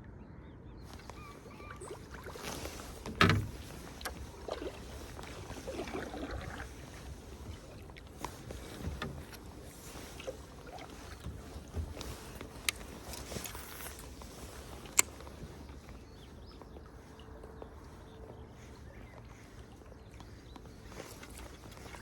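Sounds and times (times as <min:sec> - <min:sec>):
water sloshing around kayak: 0:00.9 - 0:22.0.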